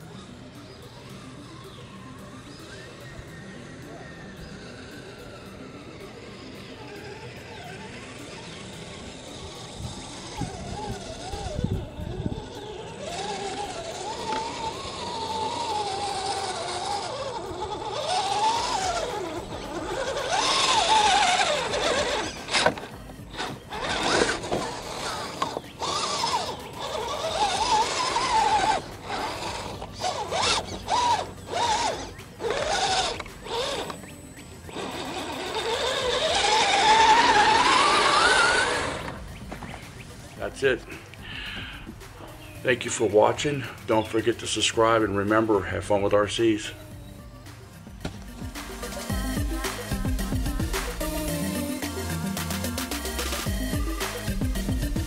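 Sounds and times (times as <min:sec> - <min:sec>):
toy car electric motor whining: 0:00.0 - 0:55.0.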